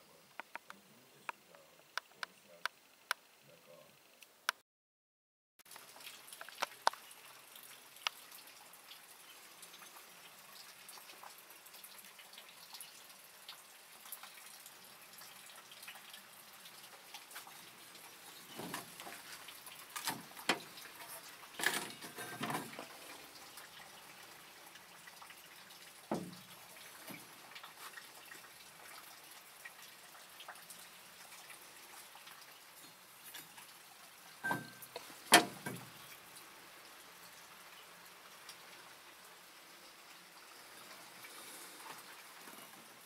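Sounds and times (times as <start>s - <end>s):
faint steady hiss: 0.0s - 4.6s, 5.7s - 43.0s.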